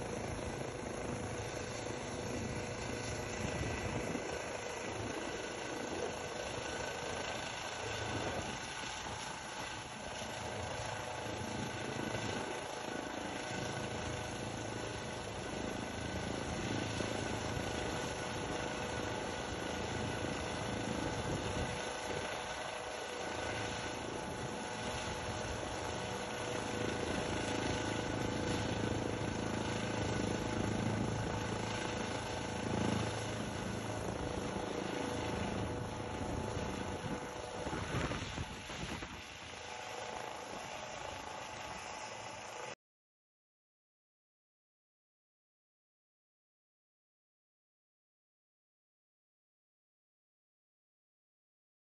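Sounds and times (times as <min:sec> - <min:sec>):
helicopter turbine and rotor: 0:00.0 - 0:42.8.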